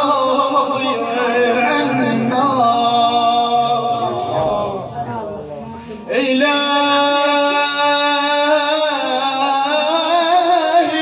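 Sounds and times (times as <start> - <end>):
man chanting a long note: 0.0 - 11.0.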